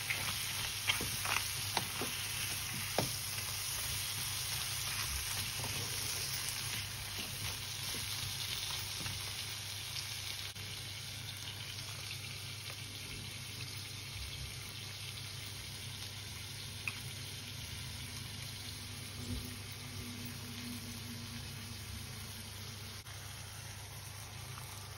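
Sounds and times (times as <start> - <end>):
food sizzling in a pan: 0.0 - 24.9.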